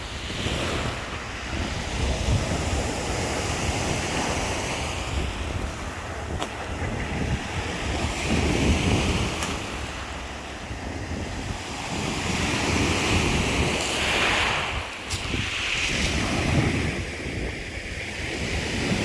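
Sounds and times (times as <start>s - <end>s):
surf breaking on shore: 0.0s - 19.0s
wind rumbling on microphone: 0.0s - 19.0s.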